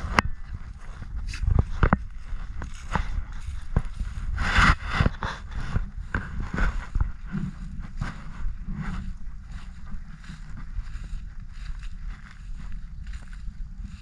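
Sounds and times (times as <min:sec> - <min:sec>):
footsteps through grass and leaves: 0:00.0 - 0:14.0
wind rumble on microphone: 0:00.0 - 0:14.0.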